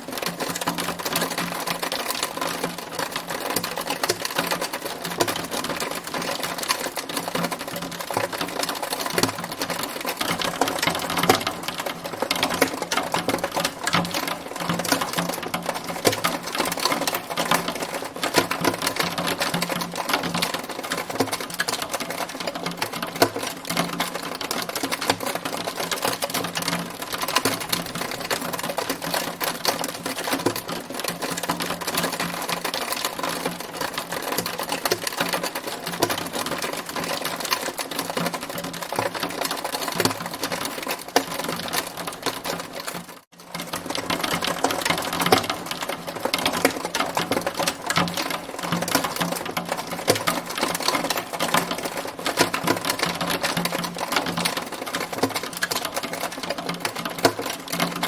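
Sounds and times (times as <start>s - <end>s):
hail pelting hard surface: 0.0s - 58.0s.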